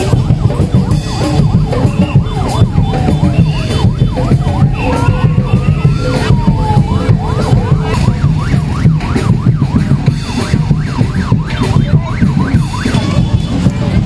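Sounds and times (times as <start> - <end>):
siren-like yelping tone: 0.0 - 13.7.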